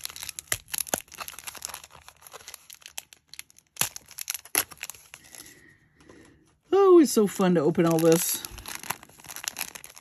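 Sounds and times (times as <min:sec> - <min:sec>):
plastic bag crinkling: 0:00.0 - 0:05.7, 0:07.2 - 0:10.0.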